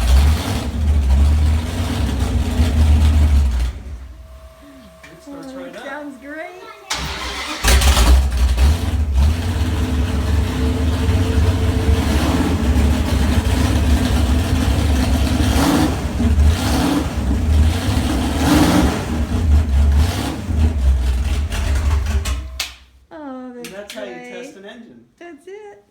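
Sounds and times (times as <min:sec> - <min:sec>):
engine rumbling and revving: 0:00.0 - 0:05.3, 0:06.9 - 0:22.6.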